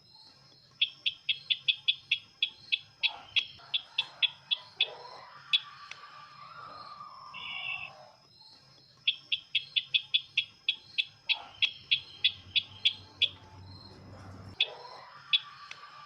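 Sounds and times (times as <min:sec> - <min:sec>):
small bird chipping: 0:00.1 - 0:16.0.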